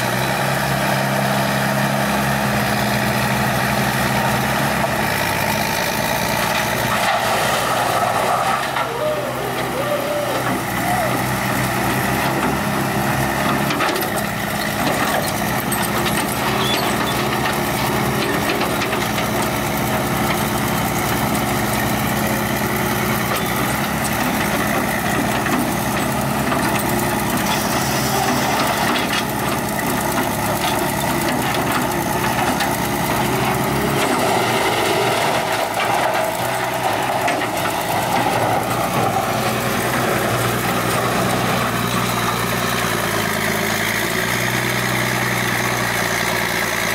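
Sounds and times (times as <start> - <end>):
excavator engine running: 0.0 - 46.9
wood grinder running: 0.0 - 46.9.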